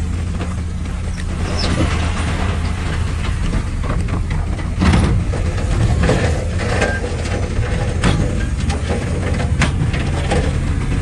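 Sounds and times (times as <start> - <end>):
heavy diesel engine droning: 0.0 - 11.0
metallic clanks and knocks: 0.3 - 11.0.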